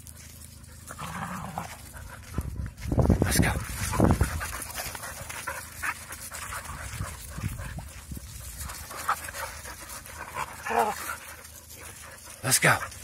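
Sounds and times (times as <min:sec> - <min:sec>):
dogs panting: 0:00.0 - 0:13.0
dogs scuffling on dirt: 0:00.0 - 0:13.0
footsteps on dirt: 0:00.0 - 0:13.0.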